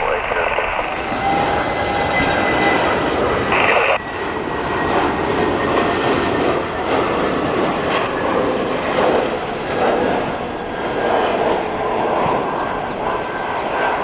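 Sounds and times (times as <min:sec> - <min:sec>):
jet engine roar with high whine: 0:00.0 - 0:14.0.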